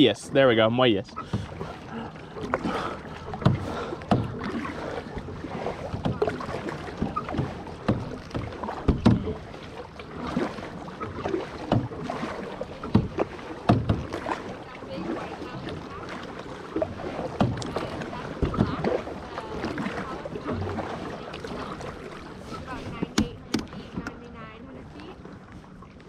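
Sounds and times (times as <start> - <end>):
paddles splashing in water: 0.0 - 26.0.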